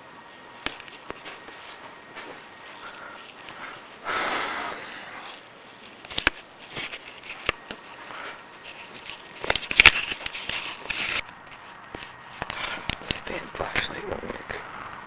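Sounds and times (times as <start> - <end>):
rustle of handling: 0.2 - 14.5.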